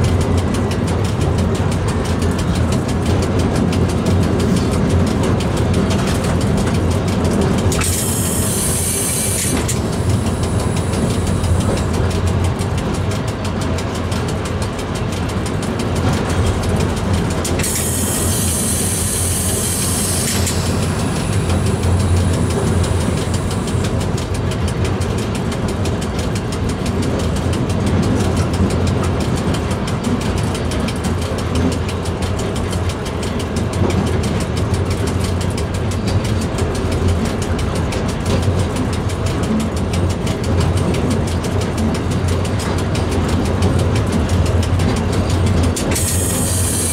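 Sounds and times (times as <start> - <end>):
train rumbling in tunnel: 0.0 - 46.9.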